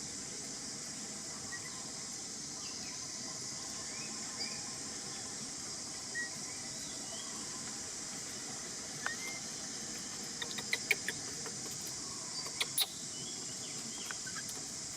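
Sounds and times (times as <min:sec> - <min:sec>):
high-pitched insect chorus: 0:00.0 - 0:14.9.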